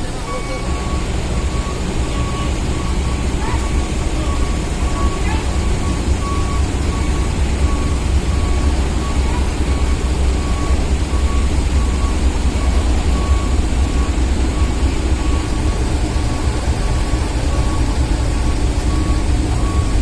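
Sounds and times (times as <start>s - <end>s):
engines rumbling low: 0.0s - 20.0s
high warning beeps: 0.0s - 20.0s.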